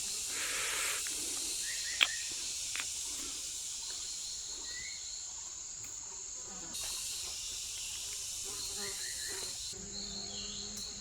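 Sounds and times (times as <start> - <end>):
steady high-pitched hiss: 0.0 - 11.0.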